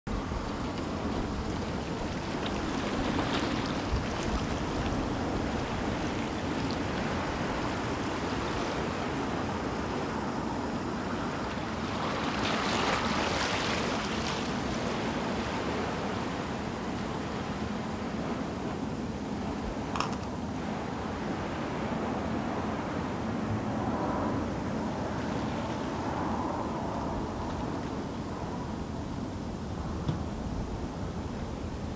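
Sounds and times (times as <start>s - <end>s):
sea waves washing on shore: 0.1s - 31.9s
wind rumble on microphone: 0.1s - 31.9s.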